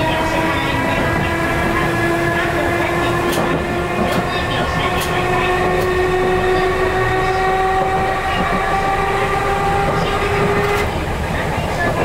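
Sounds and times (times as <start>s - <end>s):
train motor whine: 0.0s - 11.0s
train running rumble: 0.0s - 12.0s.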